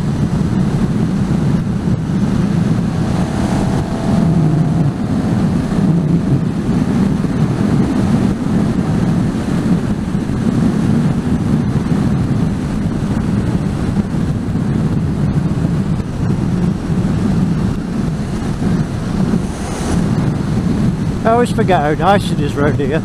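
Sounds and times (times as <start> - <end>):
motorcycle engine cruising: 0.0 - 23.0
wind rush on microphone: 0.0 - 23.0.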